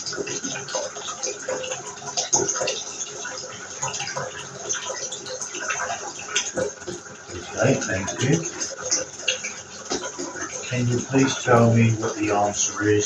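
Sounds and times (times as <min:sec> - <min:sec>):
small water splashes: 0:00.0 - 0:13.0
tap water running into tub: 0:00.0 - 0:13.0.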